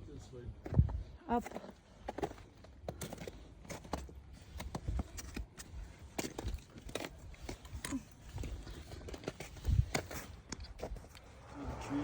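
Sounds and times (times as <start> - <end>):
footsteps on snow and ice: 0.6 - 12.0.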